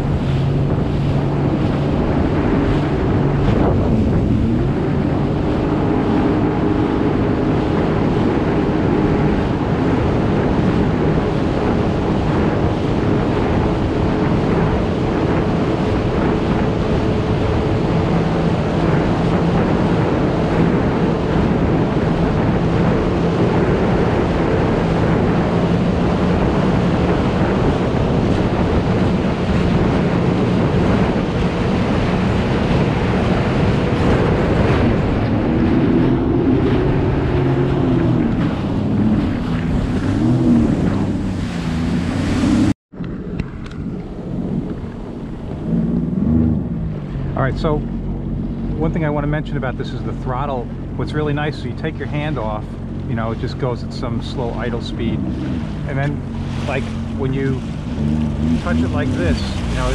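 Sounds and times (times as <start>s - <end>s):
water rushing along hull: 0.0s - 59.9s
watercraft engine hum: 0.0s - 59.9s
wind buffeting microphone: 0.0s - 59.9s.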